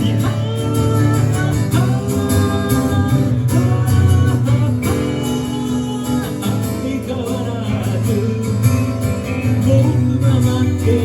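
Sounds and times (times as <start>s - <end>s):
guitar: 0.0s - 11.0s.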